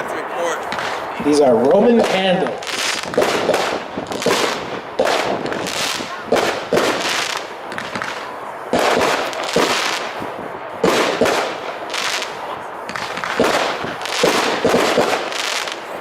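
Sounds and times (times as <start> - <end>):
hiss and crackle: 0.0 - 16.0.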